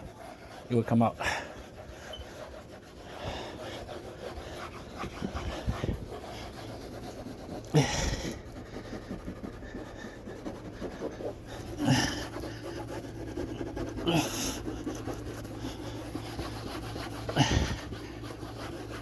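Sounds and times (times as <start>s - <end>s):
towel scrubbing a refrigerator door: 0.0s - 19.0s
person breathing hard: 1.2s - 2.0s, 3.0s - 6.5s, 7.5s - 18.4s.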